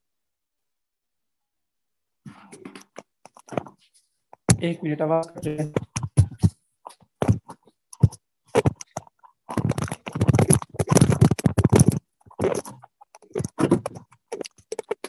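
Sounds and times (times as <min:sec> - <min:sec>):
microphone handling scrapes and knocks: 0:02.2 - 0:04.6, 0:05.2 - 0:15.0
rubbing and scraping on microphone: 0:02.2 - 0:15.0.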